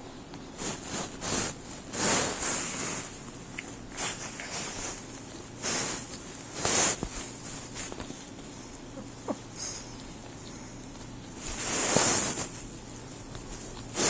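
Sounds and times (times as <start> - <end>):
cat scuffling with hair tie: 0.5 - 8.9, 9.6 - 14.0.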